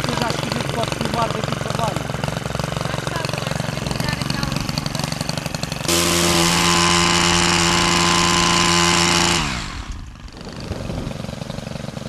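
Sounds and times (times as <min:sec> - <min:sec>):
pole saw engine running: 0:00.0 - 0:12.0.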